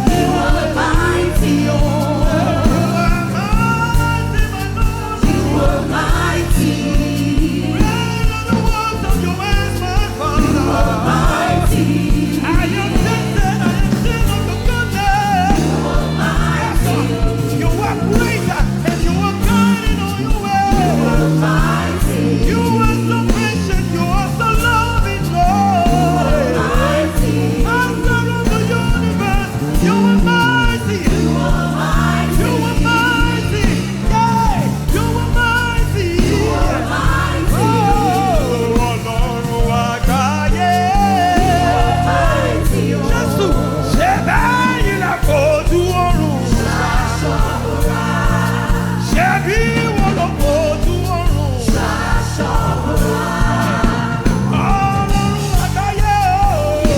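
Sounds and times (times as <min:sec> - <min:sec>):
band playing steady beat: 0:00.0 - 0:56.9
voices singing praise song: 0:00.0 - 0:56.9.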